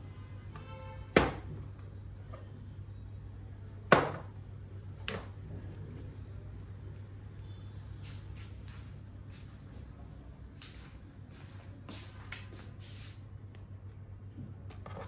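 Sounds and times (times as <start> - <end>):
steady low hum: 1.4 - 15.0.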